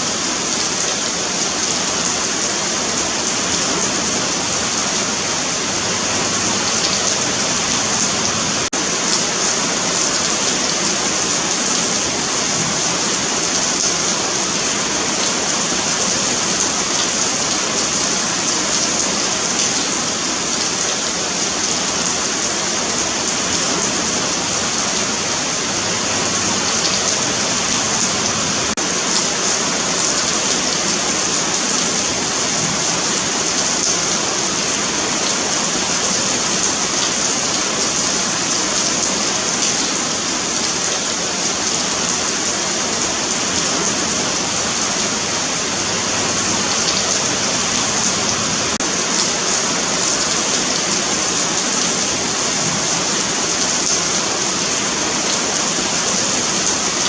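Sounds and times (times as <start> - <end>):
rain on pavement: 0.0 - 57.0.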